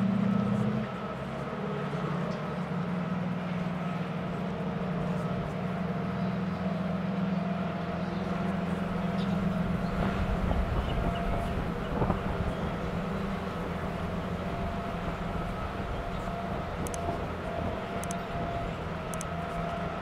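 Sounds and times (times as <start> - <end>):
boat engines droning: 0.0 - 20.0.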